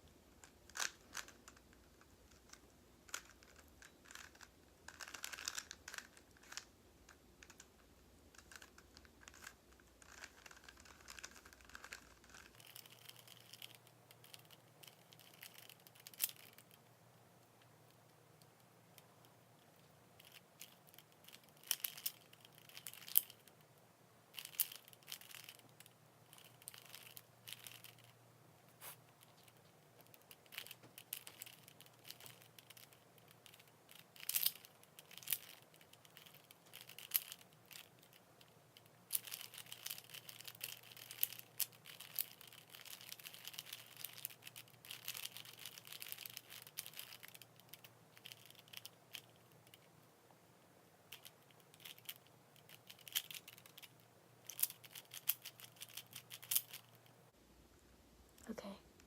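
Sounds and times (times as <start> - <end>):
puzzle cube plastic clicks: 0.1 - 28.2, 28.9 - 50.0, 51.1 - 57.2.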